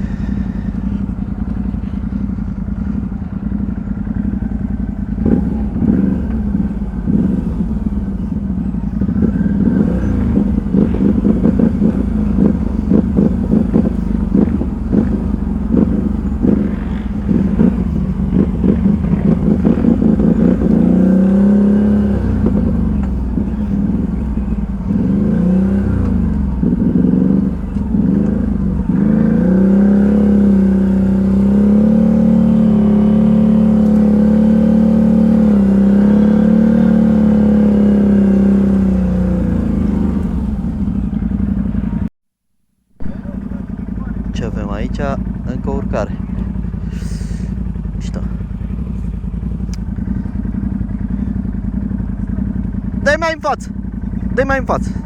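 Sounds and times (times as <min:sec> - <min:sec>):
atv engine running under load: 0:00.0 - 0:42.1, 0:43.0 - 0:55.0.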